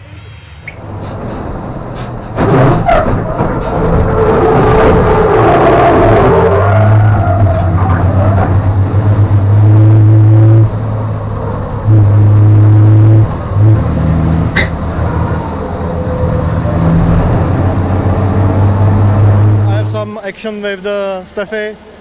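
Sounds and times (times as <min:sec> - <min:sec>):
truck diesel engine pulling hard: 0:00.7 - 0:22.0.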